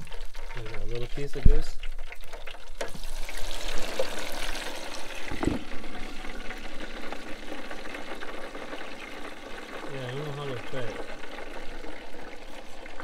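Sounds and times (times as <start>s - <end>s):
meat sizzling in fat: 0.0s - 13.0s.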